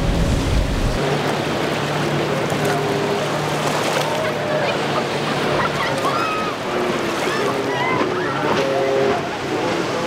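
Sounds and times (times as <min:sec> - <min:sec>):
boat motor humming: 0:00.0 - 0:10.0
rushing water: 0:00.0 - 0:10.0
wind: 0:00.0 - 0:10.0.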